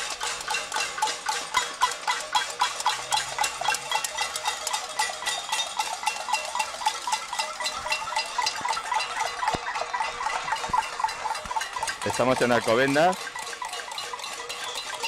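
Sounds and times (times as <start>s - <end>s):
pans beaten with spoons: 0.0s - 15.0s.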